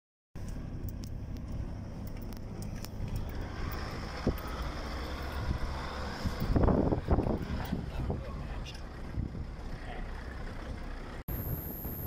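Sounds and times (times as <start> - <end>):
vehicle rumbling on dirt track: 0.4 - 12.0.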